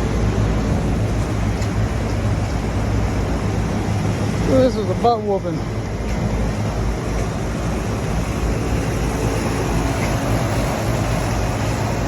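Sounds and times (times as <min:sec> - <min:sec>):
hvac units humming with fan noise: 0:00.0 - 0:12.0.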